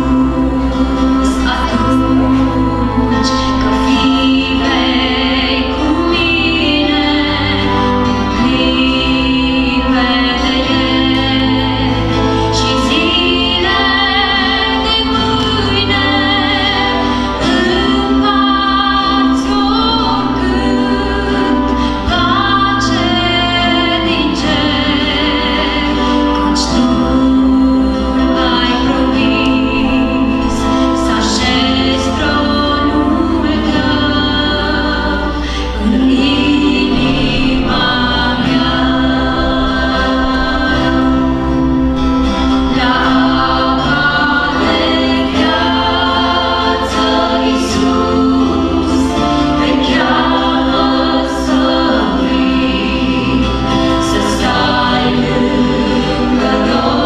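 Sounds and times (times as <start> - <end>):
acoustic guitar: 0.0 - 57.0
bass guitar: 0.0 - 57.0
keyboard: 0.0 - 57.0
vocal group singing worship song: 0.0 - 57.0.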